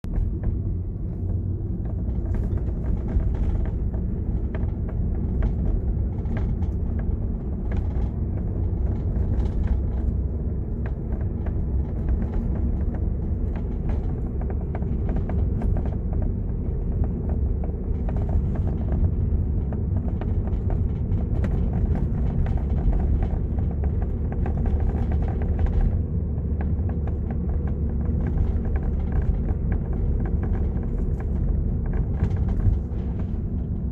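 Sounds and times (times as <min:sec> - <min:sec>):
car road rumble: 0:00.0 - 0:33.9
car roof rattling and clicking: 0:00.1 - 0:33.9.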